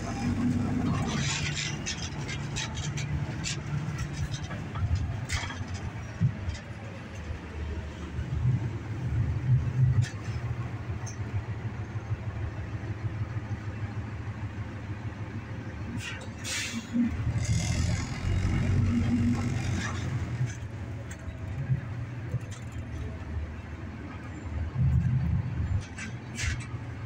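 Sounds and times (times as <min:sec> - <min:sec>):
bus engine rumbling: 0:00.0 - 0:27.0.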